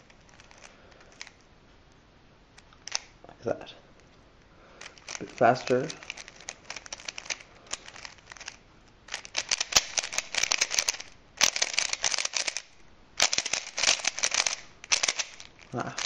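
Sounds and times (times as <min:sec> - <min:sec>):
puzzle cube clicking and clattering: 0:00.0 - 0:01.4, 0:02.8 - 0:03.2, 0:04.8 - 0:16.0.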